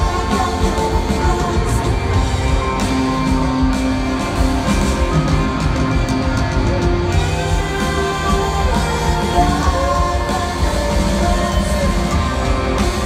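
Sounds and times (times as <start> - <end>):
live rock band in arena: 0.0 - 13.0.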